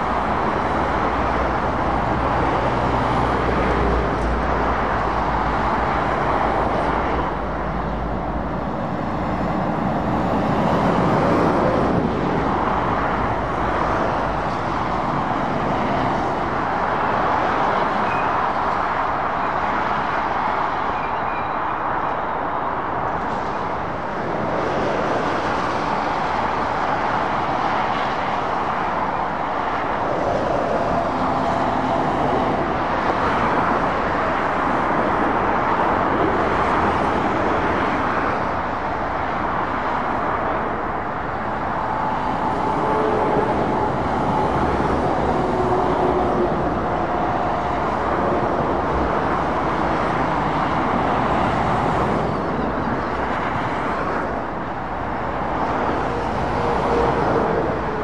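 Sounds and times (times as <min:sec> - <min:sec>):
traffic roaring past: 0:00.0 - 0:58.0.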